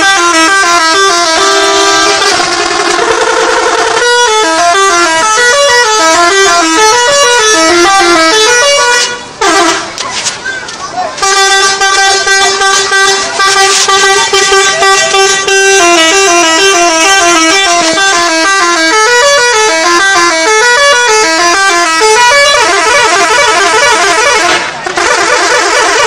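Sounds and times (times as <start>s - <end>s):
bus musical horn: 0.0s - 10.2s, 11.2s - 26.0s.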